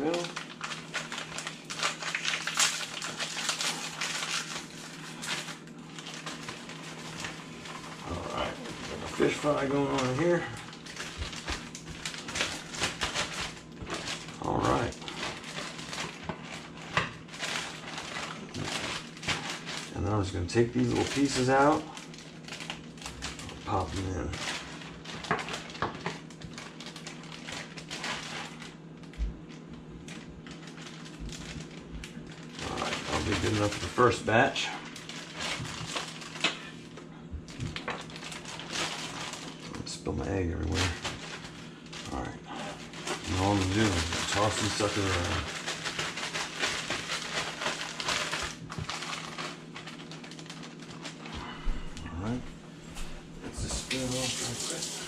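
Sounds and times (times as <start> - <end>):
plastic packaging crinkling: 0.0 - 52.4, 53.5 - 55.0
steady low hum: 0.0 - 55.0.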